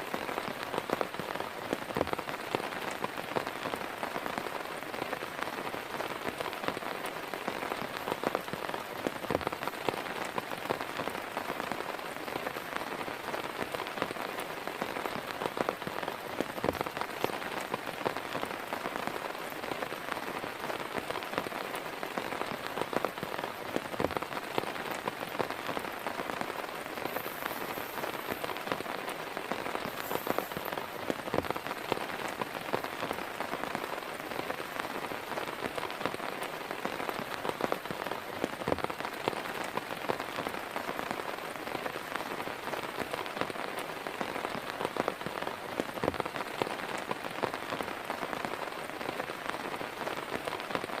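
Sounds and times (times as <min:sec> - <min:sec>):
heavy rain falling: 0:00.0 - 0:51.0
raindrops ticking on a surface: 0:00.0 - 0:51.0.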